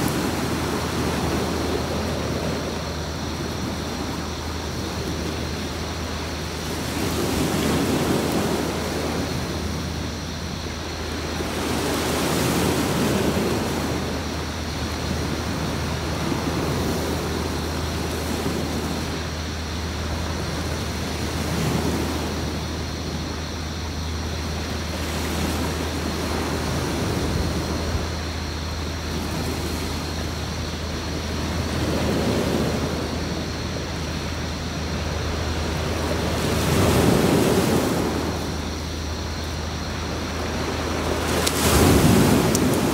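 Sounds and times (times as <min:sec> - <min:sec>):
steady low hum: 0:00.0 - 0:42.9
waves washing onto beach: 0:00.0 - 0:42.9.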